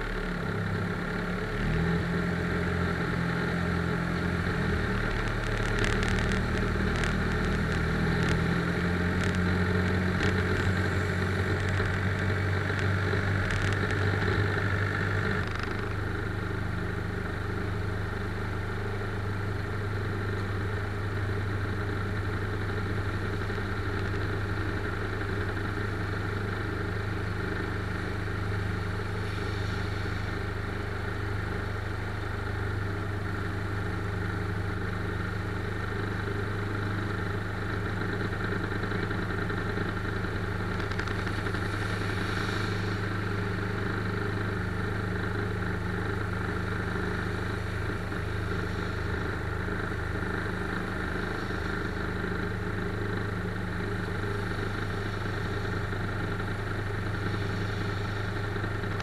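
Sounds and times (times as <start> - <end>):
vehicle engine hum from cab: 0.0 - 59.0.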